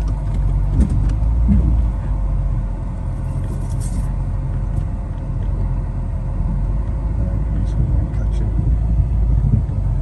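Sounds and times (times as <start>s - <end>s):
vehicle engine and tyres rumbling: 0.0s - 10.0s.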